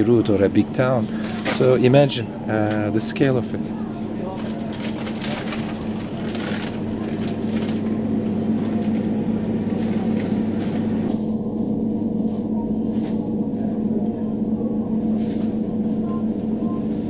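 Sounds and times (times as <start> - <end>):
freezer electrical hum: 0.0 - 17.0.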